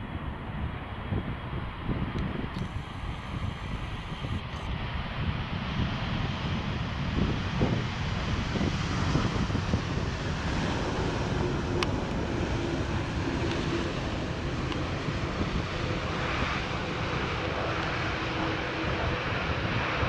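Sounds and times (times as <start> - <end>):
jet engines roaring: 0.0 - 20.0
wind on microphone: 0.0 - 20.0.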